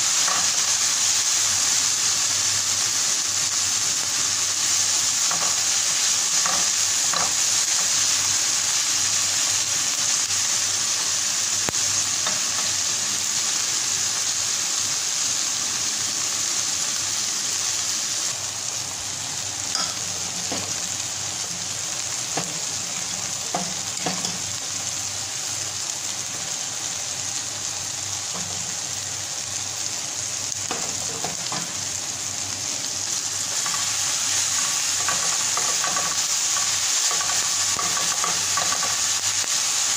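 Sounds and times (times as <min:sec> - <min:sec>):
vegetables sizzling in oil: 0:00.0 - 0:39.9.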